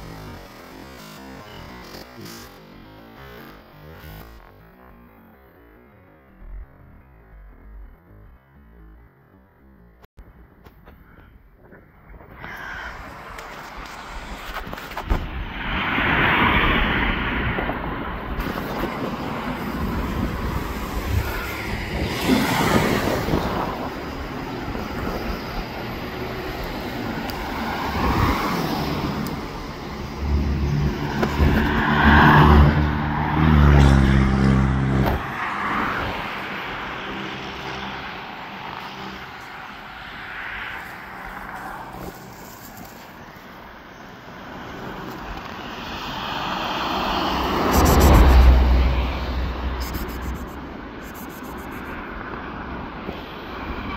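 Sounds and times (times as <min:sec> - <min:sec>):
road traffic passing: 0:00.0 - 0:53.9.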